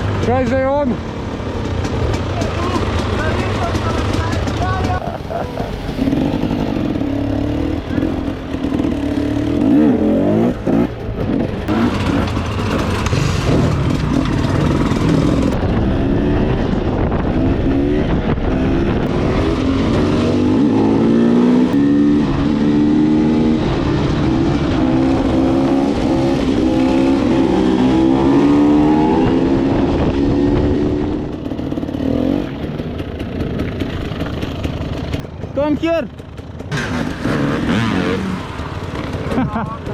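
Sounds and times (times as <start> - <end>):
dirt bike engine revving: 1.0 - 35.2, 36.2 - 39.9.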